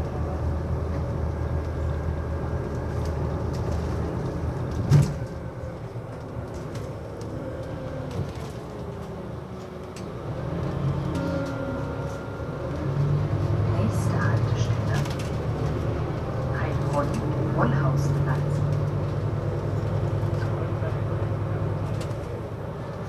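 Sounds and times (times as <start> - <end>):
tram low rumble: 0.0 - 23.0.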